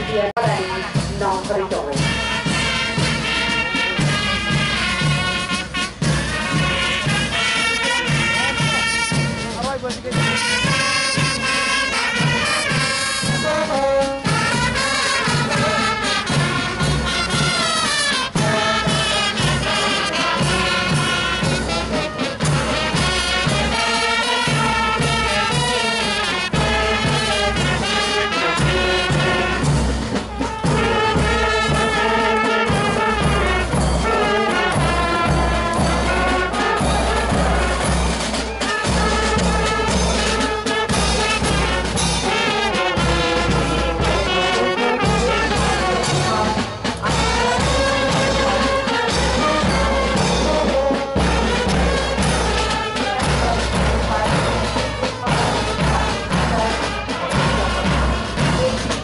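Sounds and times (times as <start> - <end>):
bass drum beat: 0.0 - 59.0
brass band playing a march: 0.0 - 59.0.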